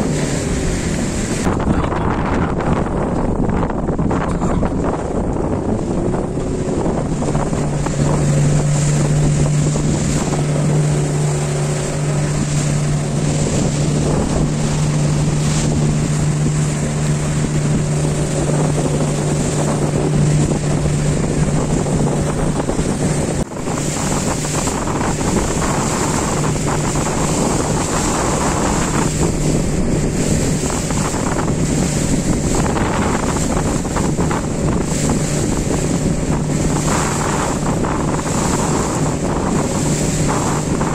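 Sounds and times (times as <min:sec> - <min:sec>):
motorboat engine running: 0:00.0 - 0:40.9
water rushing past hull: 0:00.0 - 0:40.9
wind buffeting microphone: 0:00.0 - 0:40.9.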